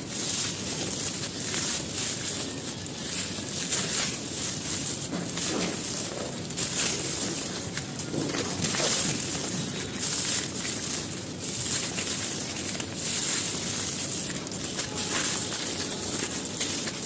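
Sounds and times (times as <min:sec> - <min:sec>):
gritty material crushed by hand: 0:00.0 - 0:17.0.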